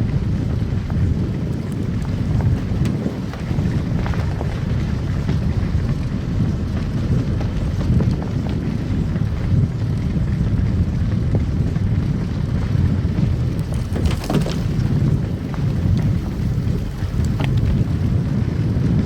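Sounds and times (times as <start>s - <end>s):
car tyres and engine rumble: 0.0s - 19.0s.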